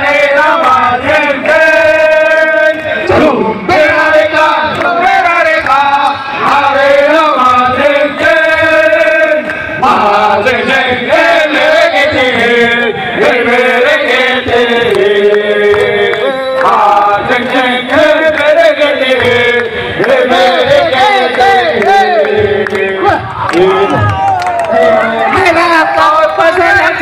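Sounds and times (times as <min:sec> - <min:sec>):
crowd of men chanting: 0:00.0 - 0:27.0.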